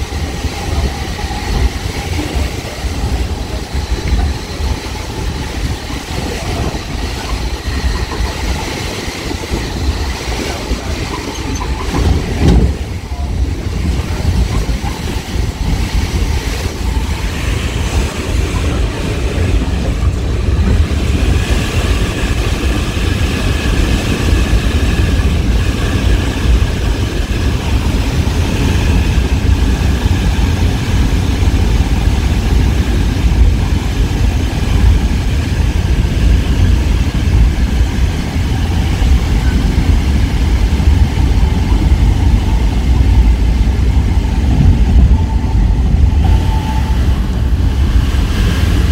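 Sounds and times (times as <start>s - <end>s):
steady tunnel hum: 0.0s - 48.9s
train wheels rumbling on rail: 0.0s - 48.9s.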